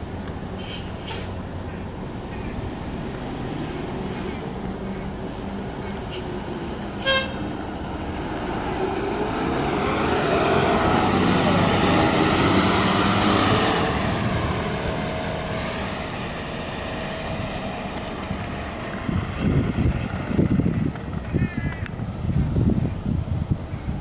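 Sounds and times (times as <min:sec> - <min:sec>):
bus driving past: 0:00.0 - 0:21.4.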